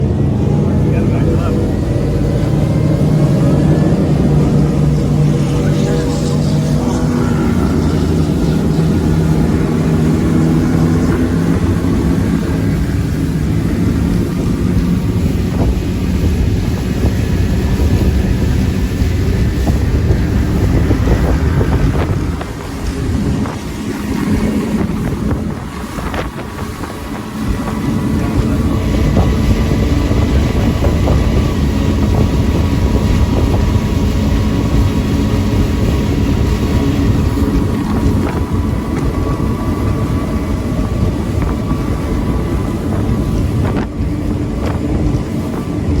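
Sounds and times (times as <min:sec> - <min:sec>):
powerboat engines rumbling: 0:00.0 - 0:46.0
wind buffeting microphone: 0:00.0 - 0:46.0.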